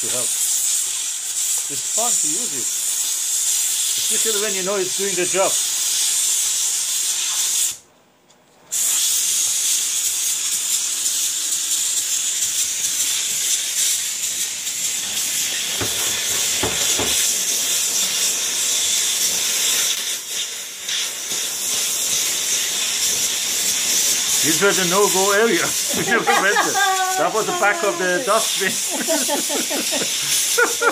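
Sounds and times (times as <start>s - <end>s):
steam cleaner hissing: 0.0s - 7.8s, 8.7s - 30.9s.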